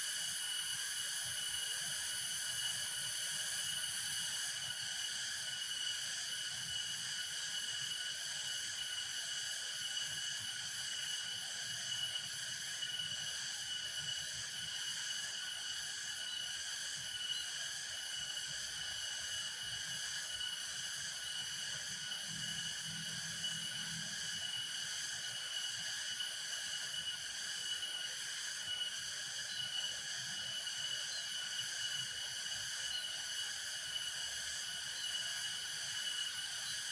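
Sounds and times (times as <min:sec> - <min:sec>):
insects buzzing: 0:00.0 - 0:36.9.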